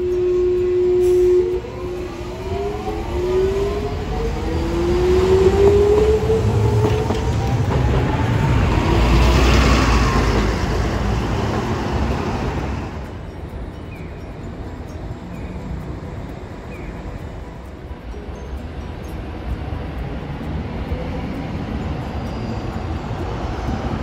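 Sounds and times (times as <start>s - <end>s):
bus engine and tyre rumble: 0.0s - 24.0s
street traffic: 0.0s - 24.0s
tram motors whining: 0.0s - 24.0s.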